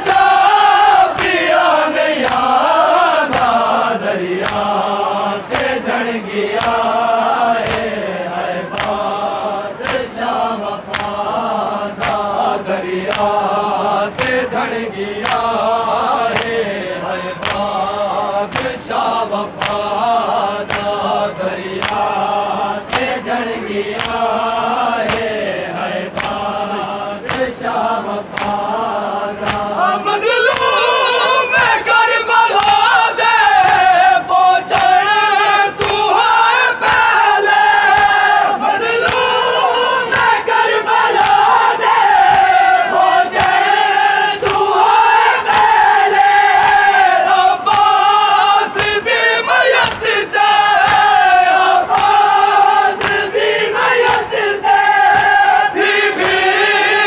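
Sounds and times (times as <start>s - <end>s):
men chanting in unison: 0.0s - 57.0s
rhythmic hand strikes on chest: 0.0s - 57.0s.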